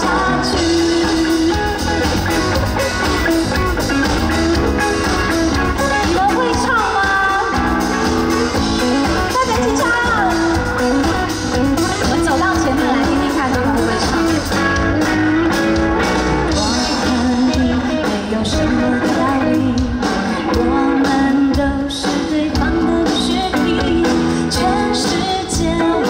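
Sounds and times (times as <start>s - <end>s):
pop-rock band playing: 0.0s - 26.0s.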